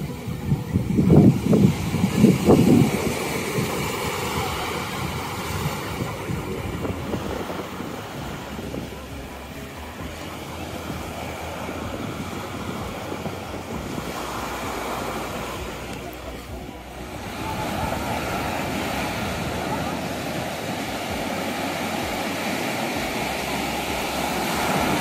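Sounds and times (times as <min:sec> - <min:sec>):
ocean surf washing ashore: 0:00.0 - 0:25.0
wind buffeting microphone: 0:00.0 - 0:25.0.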